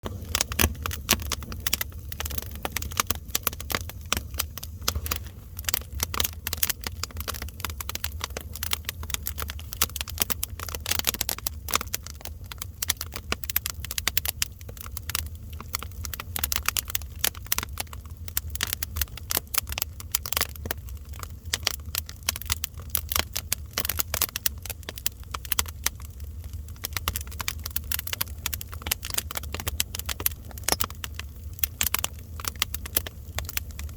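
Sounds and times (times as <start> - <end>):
fire crackling: 0.0 - 33.9.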